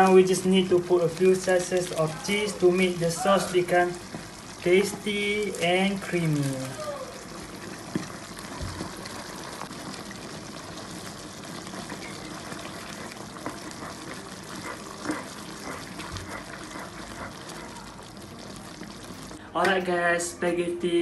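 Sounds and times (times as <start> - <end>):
spatula stirring thick sauce: 0.0 - 19.4.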